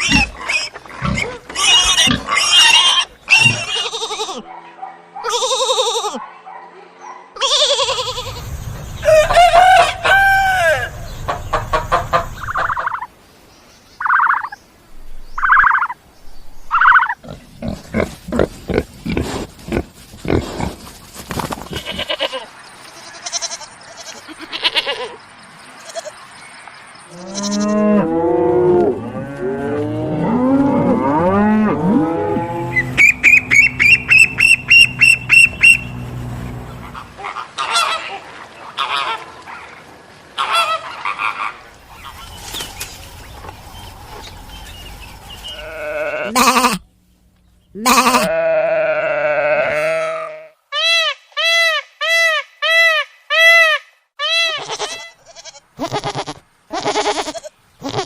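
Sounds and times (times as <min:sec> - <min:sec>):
farm animals calling: 0:00.0 - 0:13.1, 0:14.0 - 0:14.6, 0:15.4 - 0:16.0, 0:16.6 - 0:25.2, 0:25.8 - 0:26.2, 0:27.1 - 0:39.7, 0:40.4 - 0:46.9, 0:47.6 - 0:58.0.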